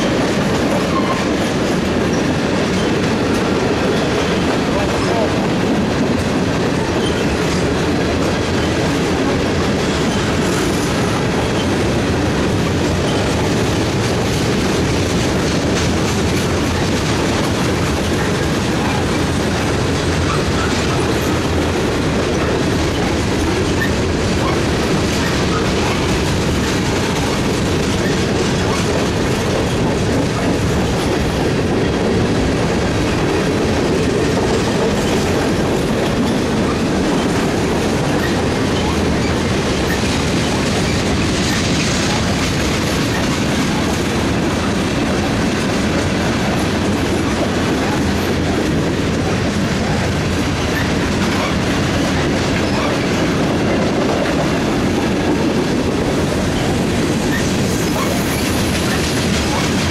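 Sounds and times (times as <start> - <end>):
steel train wheels on rails: 0.0 - 59.9.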